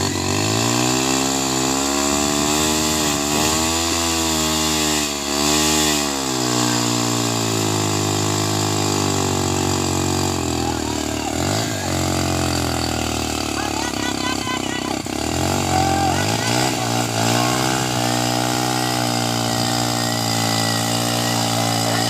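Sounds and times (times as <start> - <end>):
small petrol engine revving: 0.0 - 22.0.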